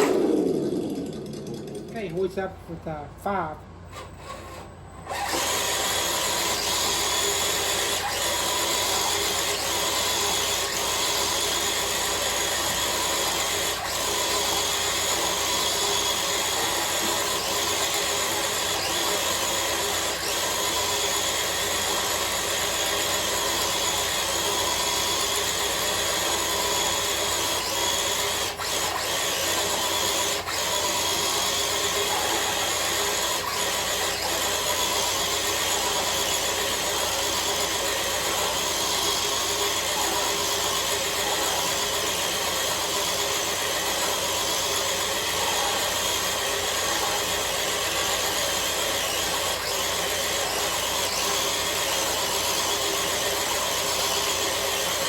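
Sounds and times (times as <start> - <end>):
electric motor whining: 0.0 - 2.2, 4.0 - 55.0.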